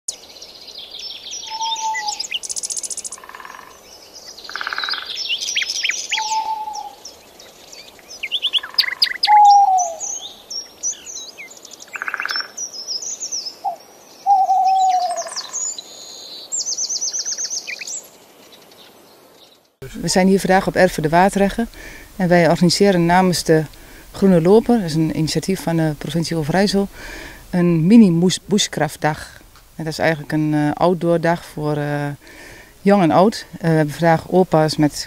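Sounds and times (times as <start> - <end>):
songbirds singing: 0.1 - 35.0.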